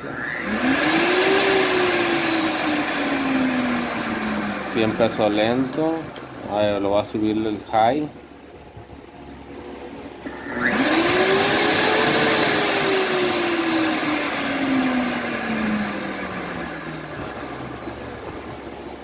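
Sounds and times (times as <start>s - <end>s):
blender motor whirring: 0.0s - 6.9s, 10.2s - 19.0s.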